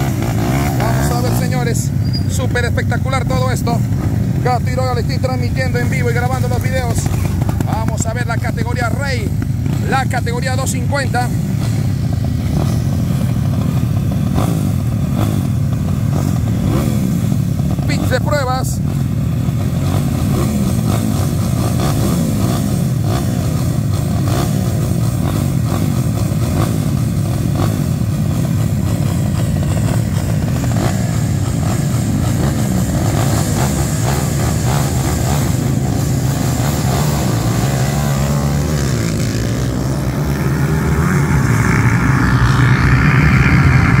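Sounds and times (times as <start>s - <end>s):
motorbike engines revving: 0.0s - 44.0s.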